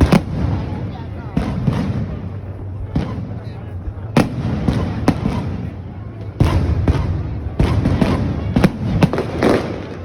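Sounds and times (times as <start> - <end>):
fireworks booming: 0.0 - 10.0.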